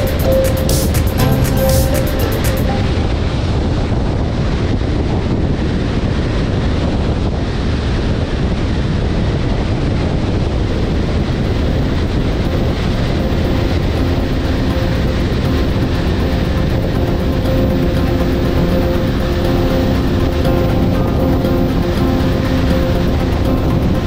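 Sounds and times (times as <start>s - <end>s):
wind on microphone: 0.0s - 24.0s
car road and wind noise: 2.7s - 24.0s.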